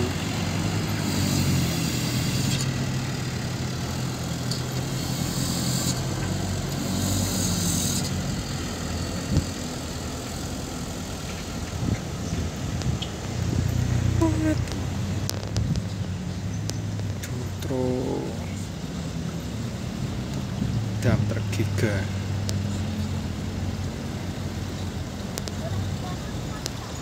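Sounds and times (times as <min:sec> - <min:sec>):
truck engine running at low revs: 0:00.0 - 0:27.0.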